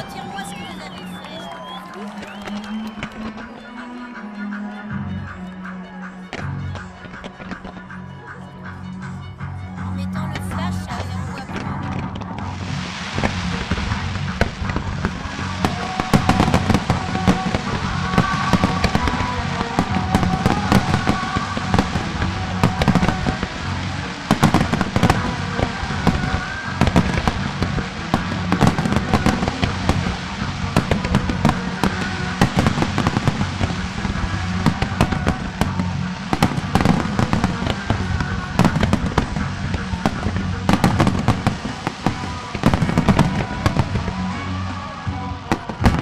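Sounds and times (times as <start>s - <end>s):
fireworks launching and bursting: 0.0s - 4.2s, 10.1s - 46.0s
faint music: 0.0s - 46.0s.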